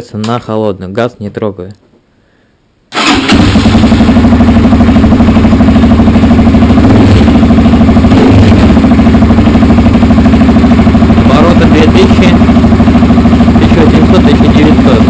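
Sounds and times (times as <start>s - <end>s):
motorcycle engine starting and idling: 2.9s - 15.0s.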